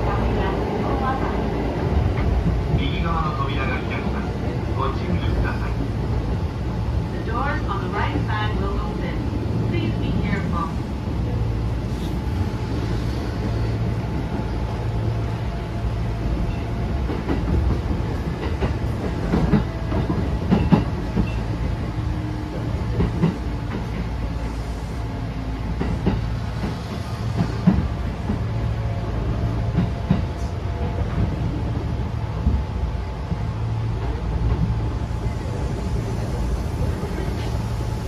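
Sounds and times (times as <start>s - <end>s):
train wheels and motors rumbling: 0.0s - 38.0s.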